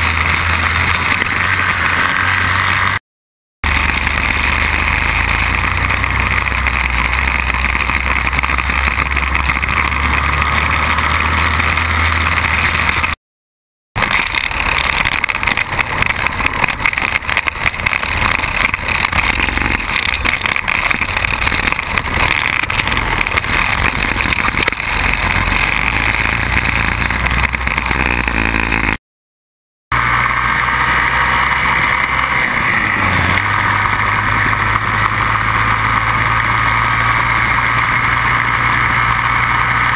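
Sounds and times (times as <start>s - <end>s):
quad bike engine running: 0.0s - 3.0s, 3.6s - 13.2s, 14.0s - 29.0s, 29.9s - 39.9s.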